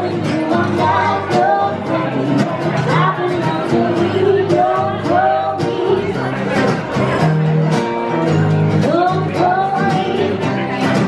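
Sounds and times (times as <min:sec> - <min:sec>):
person singing: 0:00.0 - 0:06.7, 0:08.7 - 0:11.0
acoustic guitars strummed: 0:00.0 - 0:11.0.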